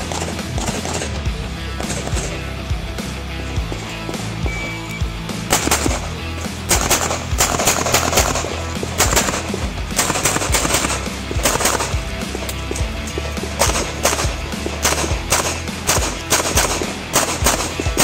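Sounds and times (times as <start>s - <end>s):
pistol shots: 0.0s - 1.2s, 1.8s - 2.5s, 5.5s - 18.0s
background music: 0.0s - 18.0s.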